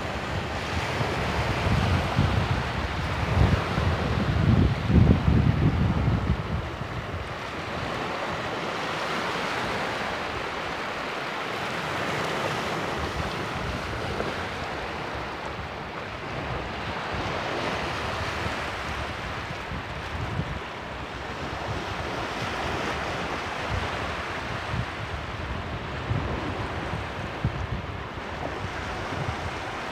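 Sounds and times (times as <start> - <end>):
wind buffeting microphone: 0.0 - 11.0, 11.7 - 29.9
surf washing over sand: 0.0 - 29.9.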